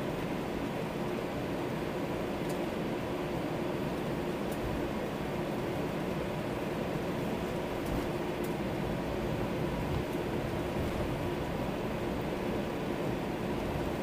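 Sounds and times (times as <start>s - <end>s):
airplane cabin engine rush: 0.0s - 14.0s.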